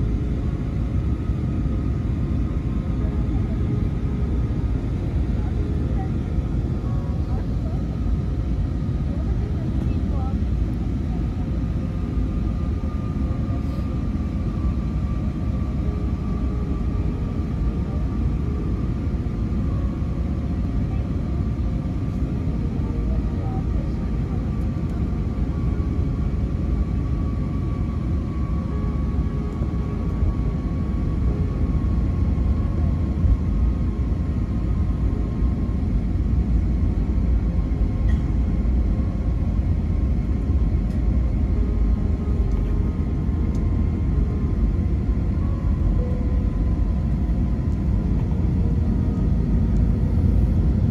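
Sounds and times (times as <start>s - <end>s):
faint steady whine: 0.0s - 50.9s
jet engines rumbling: 0.0s - 50.9s.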